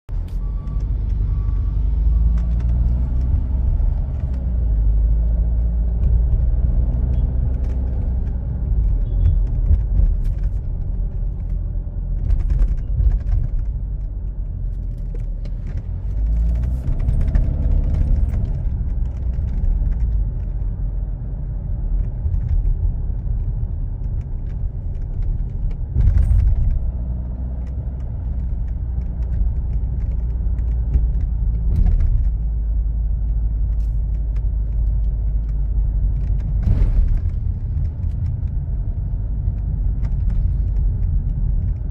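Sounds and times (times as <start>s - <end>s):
road and engine rumble: 0.0s - 41.9s.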